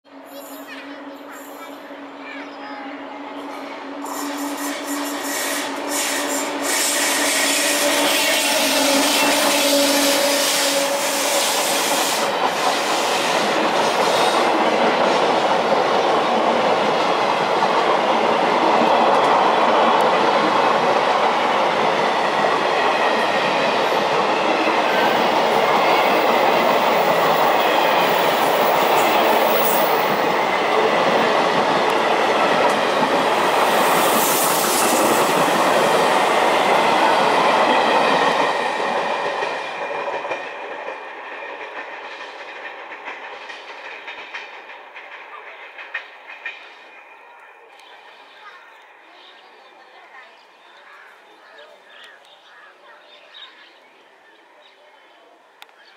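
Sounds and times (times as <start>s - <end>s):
train wheels rushing on rails: 0.1s - 50.5s.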